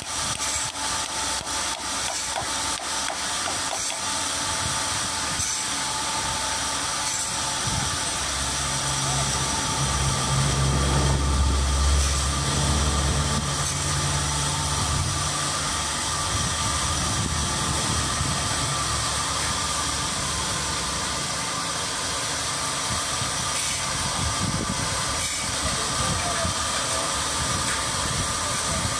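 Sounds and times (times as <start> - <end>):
sawmill machinery running: 0.0 - 28.9
low engine hum: 4.1 - 28.9.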